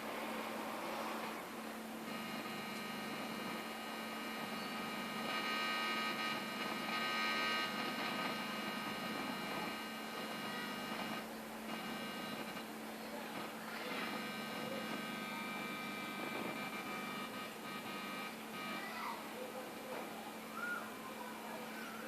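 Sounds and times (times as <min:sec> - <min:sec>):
amplifier hum and buzz: 0:00.0 - 0:21.4.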